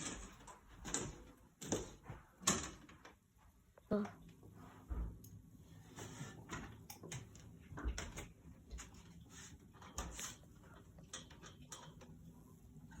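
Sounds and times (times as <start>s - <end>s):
light clicks and rustles of handling: 0.0s - 13.0s.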